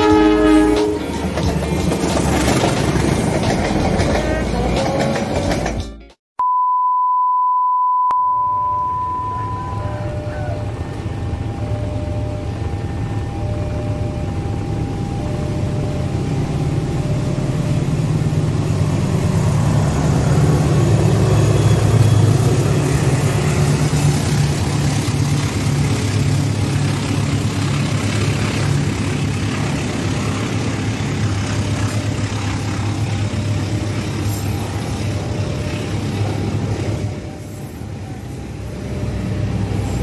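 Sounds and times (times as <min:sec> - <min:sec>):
locomotive engine drone: 0:00.0 - 0:06.0, 0:08.4 - 0:40.0
train coaches rumbling past: 0:00.0 - 0:06.1, 0:09.1 - 0:40.0.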